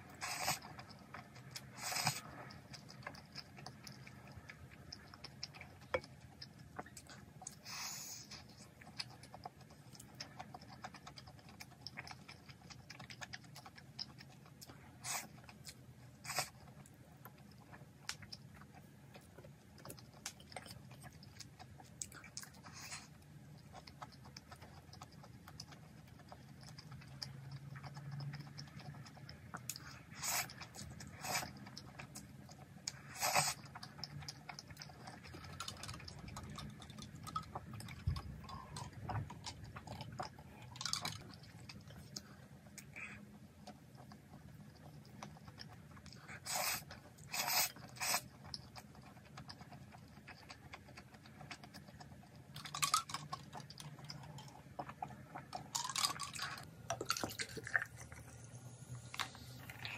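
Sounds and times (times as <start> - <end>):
chewing noodles: 0.0 - 59.9.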